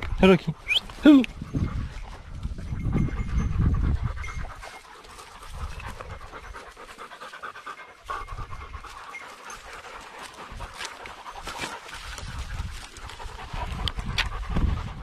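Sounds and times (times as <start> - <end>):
dogs panting: 0.2 - 15.0.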